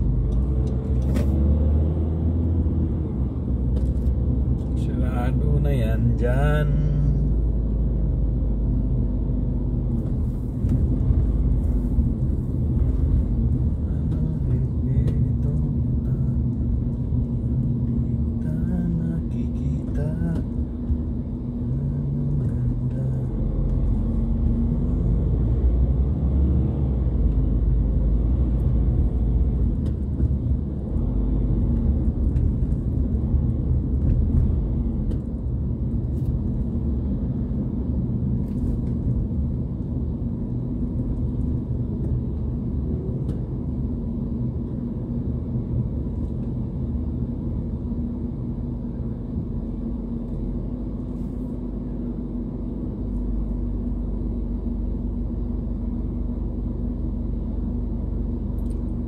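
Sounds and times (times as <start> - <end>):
car engine inside cabin: 0.0 - 59.0.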